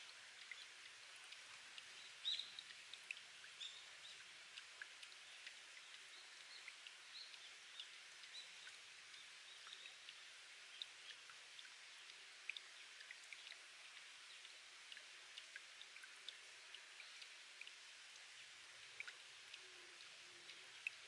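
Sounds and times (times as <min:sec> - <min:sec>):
water dripping off rock: 0:00.0 - 0:21.0
water trickling: 0:00.0 - 0:21.0.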